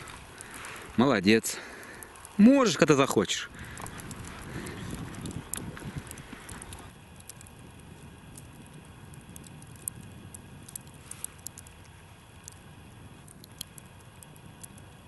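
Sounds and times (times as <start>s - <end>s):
faint low wind rumble: 0.0s - 15.0s
light ticks and patters: 0.0s - 15.0s.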